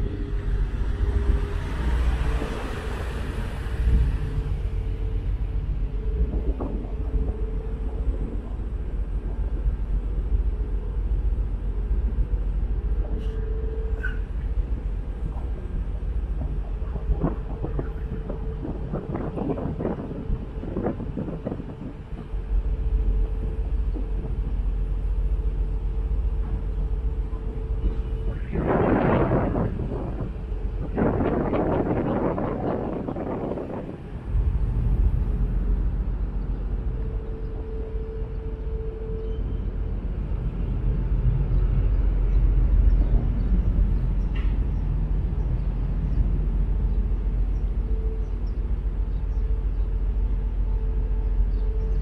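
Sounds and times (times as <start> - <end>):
ferry engines rumbling: 0.0 - 52.0.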